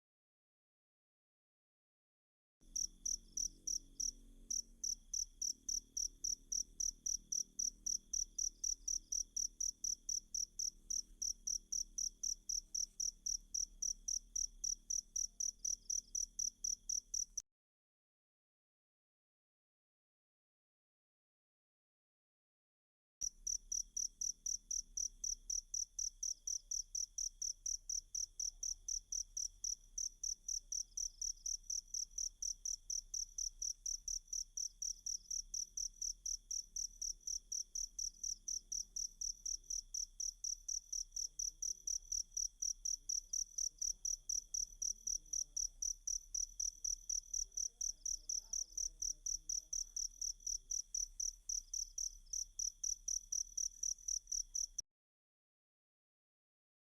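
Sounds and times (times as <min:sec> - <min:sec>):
cricket chirping: 0:02.7 - 0:17.4, 0:23.2 - 0:54.8.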